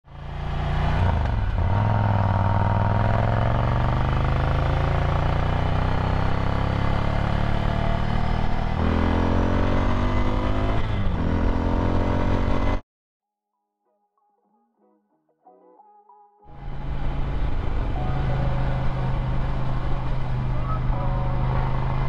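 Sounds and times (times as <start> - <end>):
motorcycle engine while riding: 0.1 - 12.8, 16.5 - 22.0.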